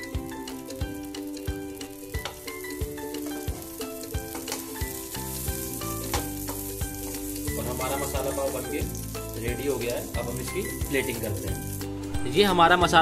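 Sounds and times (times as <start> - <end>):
butter sizzling on a griddle: 0.0 - 12.0
background music with a beat: 0.0 - 13.0.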